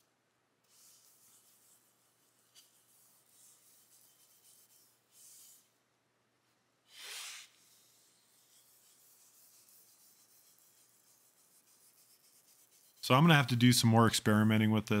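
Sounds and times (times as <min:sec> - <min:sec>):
faint rubbing and handling: 0:00.6 - 0:05.9, 0:06.5 - 0:13.4.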